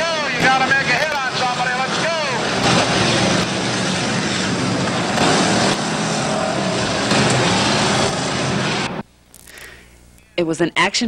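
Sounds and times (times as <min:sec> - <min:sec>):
car engines revving: 0:00.0 - 0:09.0.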